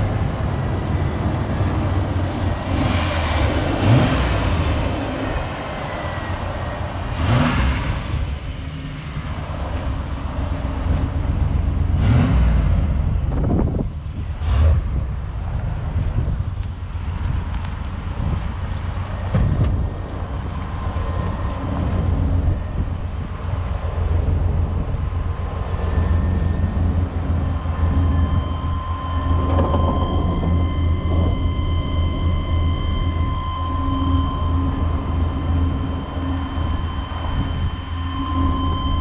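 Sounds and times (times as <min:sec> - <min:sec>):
faint high whine: 0:00.0 - 0:12.0, 0:19.0 - 0:39.0
truck engine idling: 0:00.0 - 0:39.0.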